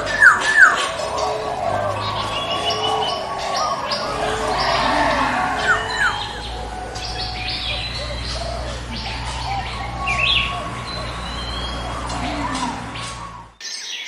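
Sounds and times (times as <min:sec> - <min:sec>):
steady low hum: 0:00.0 - 0:13.6
small birds chirping: 0:00.0 - 0:14.0.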